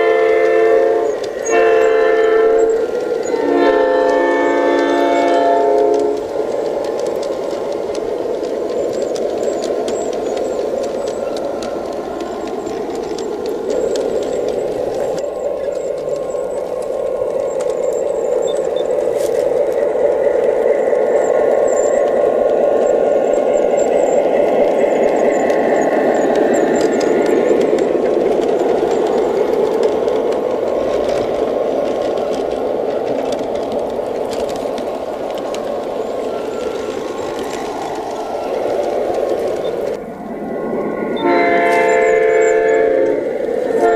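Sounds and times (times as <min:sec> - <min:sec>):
model train rolling on track: 0:00.0 - 0:43.9.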